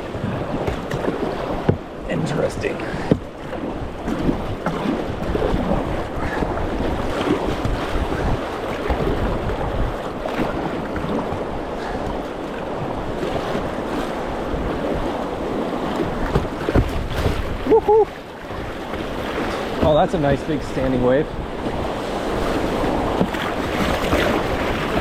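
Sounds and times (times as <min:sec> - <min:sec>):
whitewater roaring: 0:00.0 - 0:25.0
wind buffeting microphone: 0:00.0 - 0:25.0.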